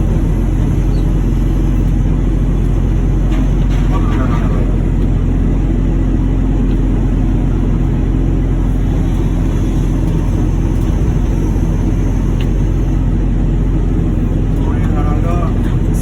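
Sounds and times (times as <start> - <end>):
heavy machinery rumbling: 0.0 - 16.0.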